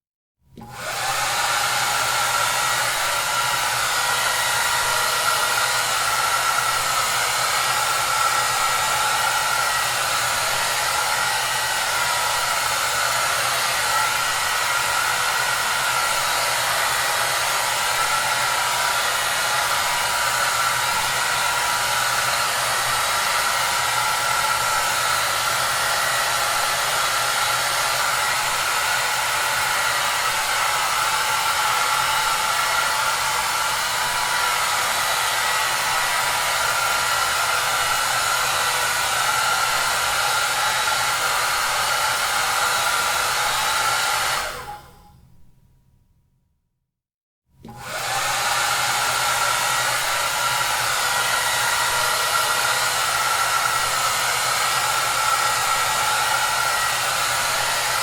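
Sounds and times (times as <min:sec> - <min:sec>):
hair dryer blowing: 0:00.5 - 0:45.1, 0:47.6 - 0:58.0.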